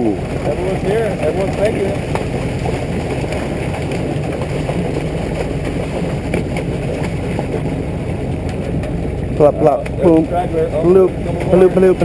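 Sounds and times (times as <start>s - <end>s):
low steady drone: 0.0s - 12.0s
water rushing and splashing: 0.0s - 12.0s.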